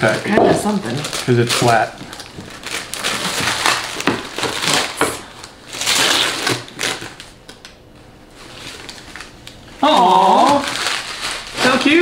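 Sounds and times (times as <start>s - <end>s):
wrapping paper ripping and crinkling: 0.0s - 7.7s, 8.3s - 12.0s.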